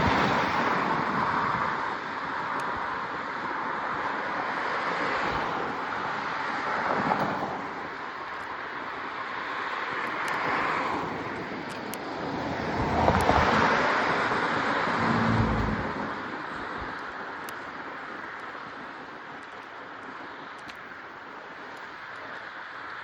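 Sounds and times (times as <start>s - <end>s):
bicycle road noise: 0.0s - 23.0s
rushing wind: 0.0s - 23.0s.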